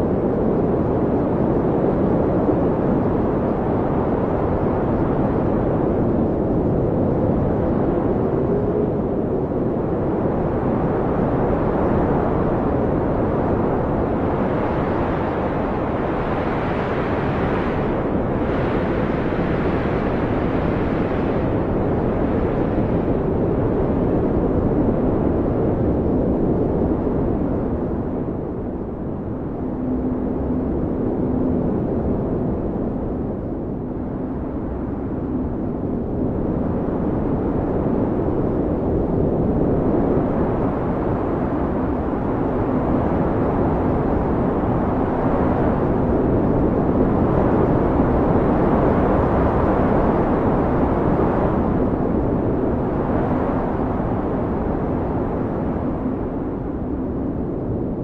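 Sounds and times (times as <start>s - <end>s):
blizzard wind howling: 0.0s - 58.0s.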